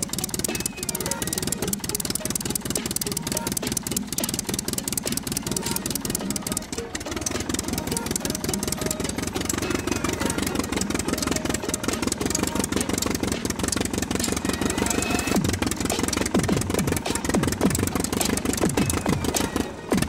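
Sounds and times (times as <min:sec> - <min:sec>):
toy car motor whirring: 0:00.0 - 0:20.0
wheels crackling over soil and grass: 0:00.0 - 0:20.0.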